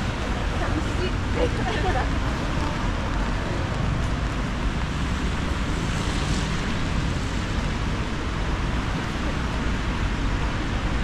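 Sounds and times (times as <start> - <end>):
wet traffic: 0.0 - 11.0.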